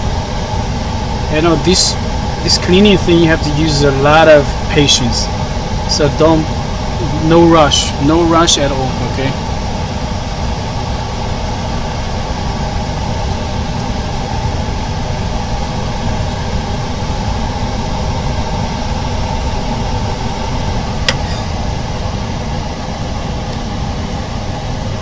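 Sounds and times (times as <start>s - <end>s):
faint hum: 0.0s - 25.0s
machinery whirring: 0.0s - 25.0s.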